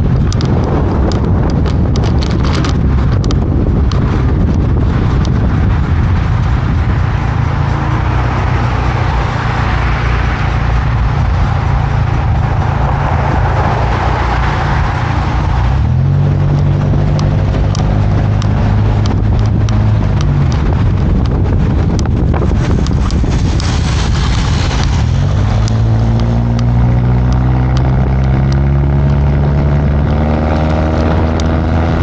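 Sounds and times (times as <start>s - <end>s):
low engine hum: 0.0s - 32.0s
wind and road noise rushing: 0.0s - 32.0s.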